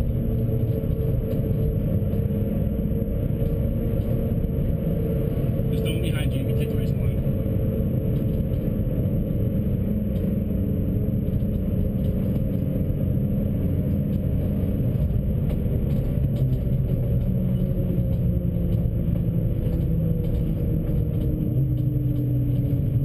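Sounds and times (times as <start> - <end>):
car engine at steady revs: 0.0 - 23.0
tyre and road noise: 0.0 - 23.0.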